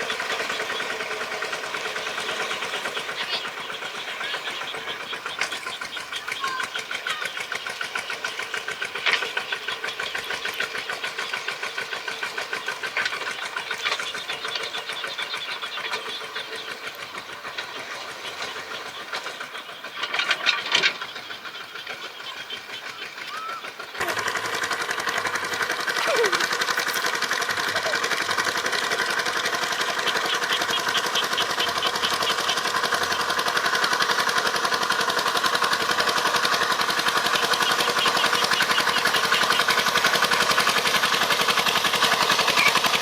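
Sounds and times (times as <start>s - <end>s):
tractor engine chugging: 0.0s - 43.0s.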